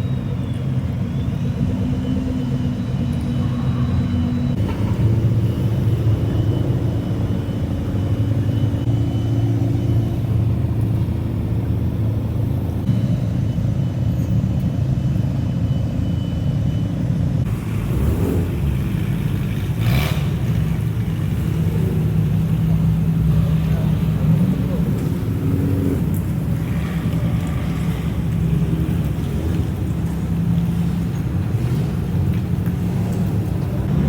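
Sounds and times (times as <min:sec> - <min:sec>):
low car exhaust rumble: 0:00.0 - 0:34.0.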